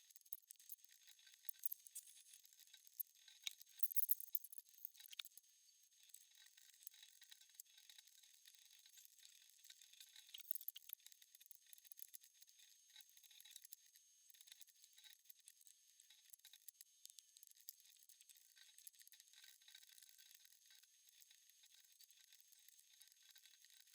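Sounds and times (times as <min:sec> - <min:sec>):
small clicks from hand work: 0:00.1 - 0:05.3, 0:06.1 - 0:23.9.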